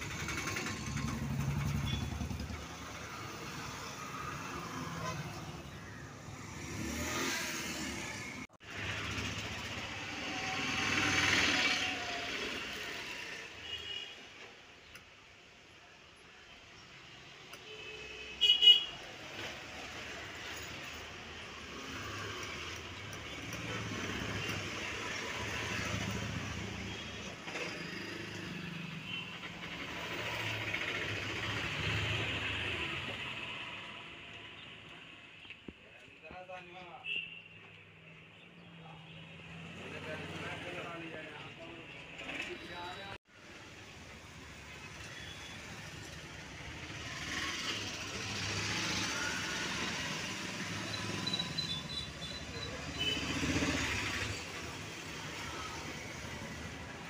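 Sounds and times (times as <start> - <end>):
road traffic hum: 0.0 - 57.0.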